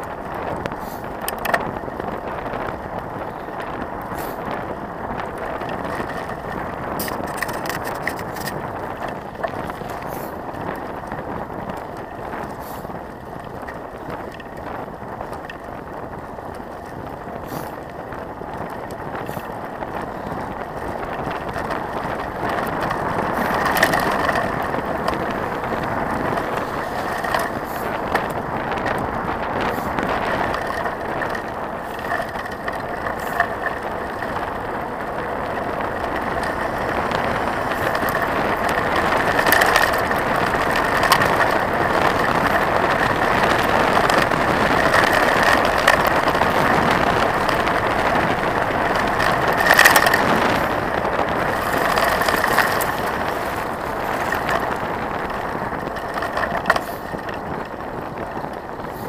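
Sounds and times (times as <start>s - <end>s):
bike rattling: 0.0s - 59.0s
bike tyres crunching on gravel: 0.0s - 59.0s.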